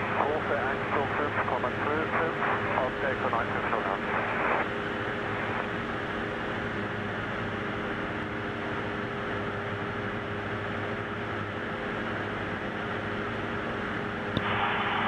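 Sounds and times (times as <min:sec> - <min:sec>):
propeller engine droning: 0:00.0 - 0:15.0.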